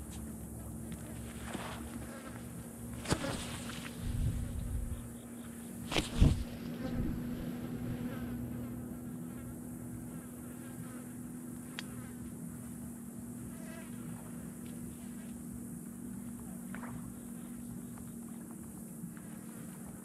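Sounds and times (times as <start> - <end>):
flies buzzing: 0.0 - 20.0.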